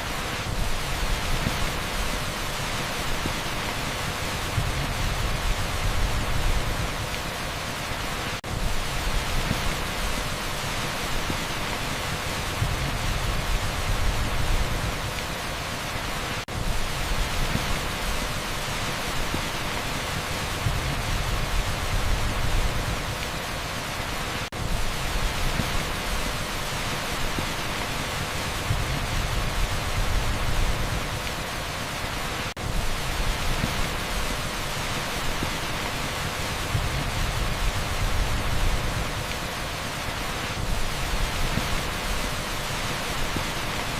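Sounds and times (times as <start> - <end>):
heavy rain on asphalt: 0.0 - 43.9.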